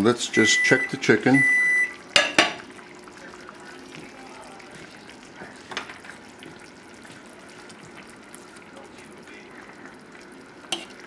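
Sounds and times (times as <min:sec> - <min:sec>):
sauce simmering with bubbling hiss: 0:00.5 - 0:11.0.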